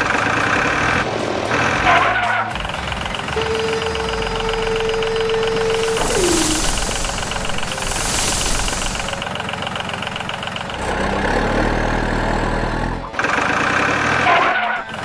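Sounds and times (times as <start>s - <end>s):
higher mechanical sound: 0.0s - 15.0s
hiss: 0.0s - 15.0s
low engine note: 0.0s - 15.0s.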